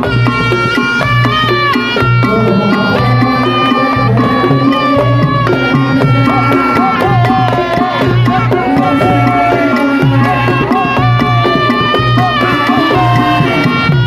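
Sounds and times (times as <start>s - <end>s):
hand drum rhythm: 0.0s - 14.0s
reed trumpet melody: 0.0s - 14.0s.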